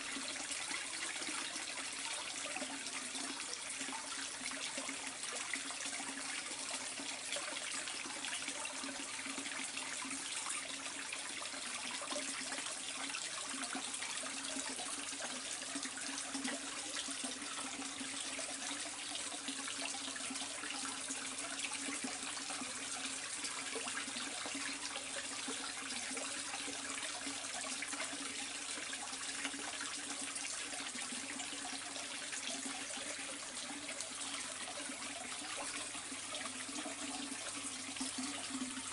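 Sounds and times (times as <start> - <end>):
water running into a pond: 0.0 - 38.9.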